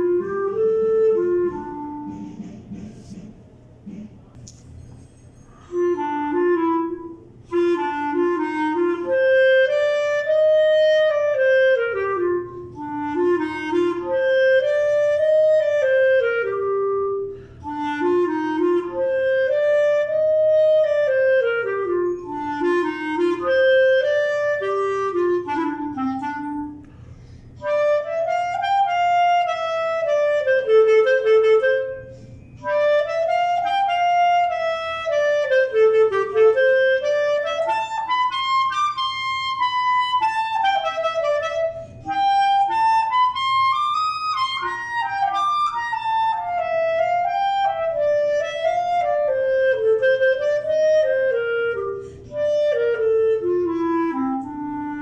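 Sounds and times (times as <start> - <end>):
solo clarinet melody: 0.0 - 2.7, 5.5 - 55.0.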